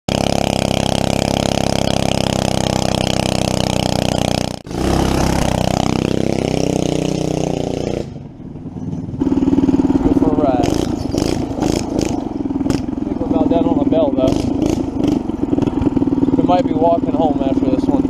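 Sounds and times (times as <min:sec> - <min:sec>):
dirt bike engine revving: 0:00.1 - 0:18.0.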